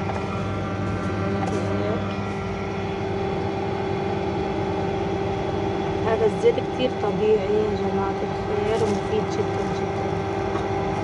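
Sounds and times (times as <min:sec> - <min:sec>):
oil press motor hum: 0:00.0 - 0:11.0.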